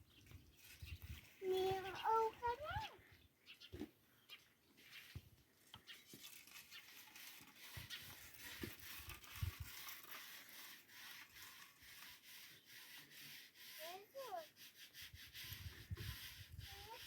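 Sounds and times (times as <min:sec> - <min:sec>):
faint scraping and rubbing: 0:00.1 - 0:03.0, 0:03.7 - 0:17.0.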